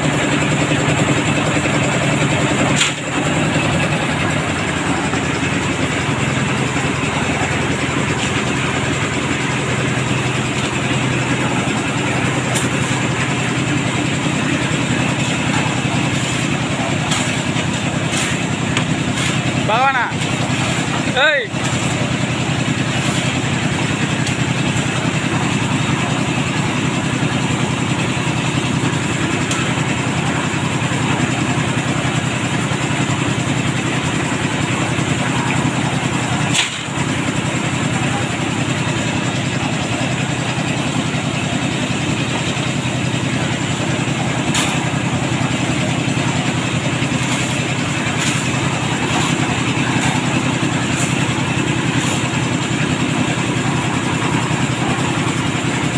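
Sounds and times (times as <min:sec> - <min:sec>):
concrete mixer running: 0:00.0 - 0:55.9.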